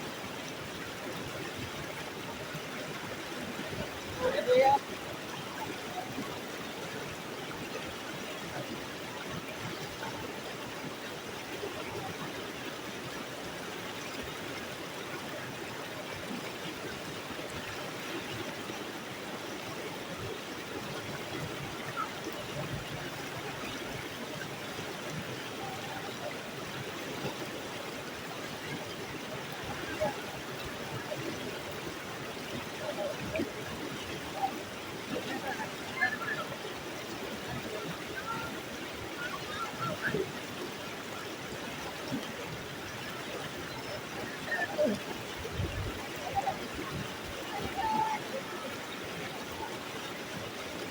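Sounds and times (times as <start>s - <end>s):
water rushing in rocky stream: 0.0s - 50.9s.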